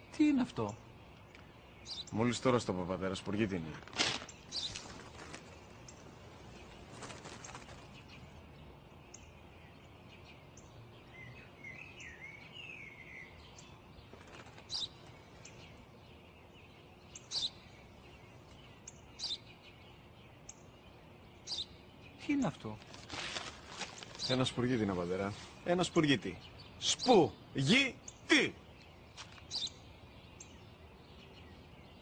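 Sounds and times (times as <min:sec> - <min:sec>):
faint outdoor background: 0:00.0 - 0:32.0
small birds chirping: 0:00.0 - 0:32.0.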